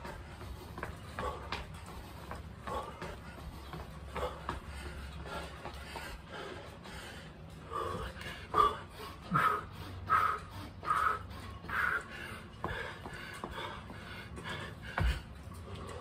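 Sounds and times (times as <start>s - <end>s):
man breathing hard: 0.0s - 16.0s.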